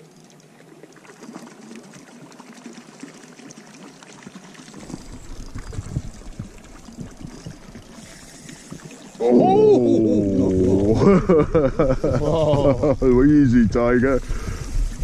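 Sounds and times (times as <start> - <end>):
water lapping against boat hull: 0.0 - 13.5.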